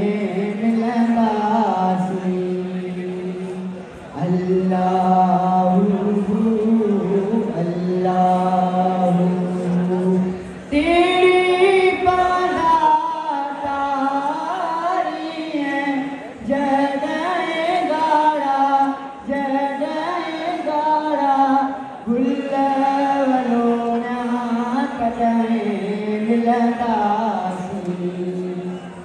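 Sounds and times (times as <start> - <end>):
man singing into microphone: 0.0 - 29.0.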